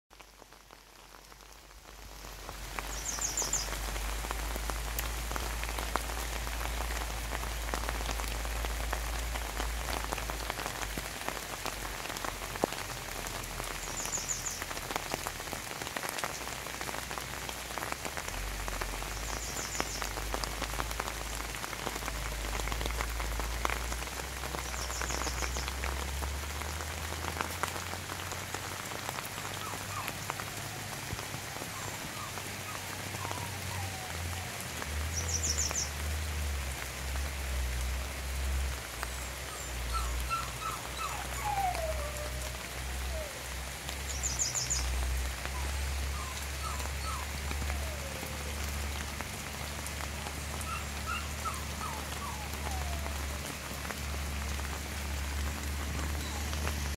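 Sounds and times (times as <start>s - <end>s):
rain on leaves: 0.1s - 56.9s.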